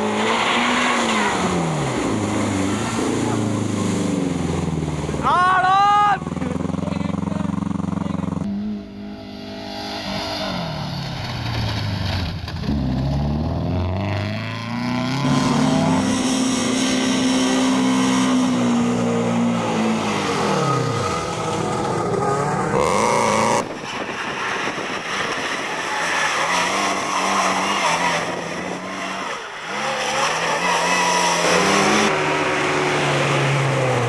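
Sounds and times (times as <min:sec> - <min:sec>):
rally car engines revving: 0:00.0 - 0:05.4, 0:06.2 - 0:34.0
car passing: 0:06.2 - 0:34.0.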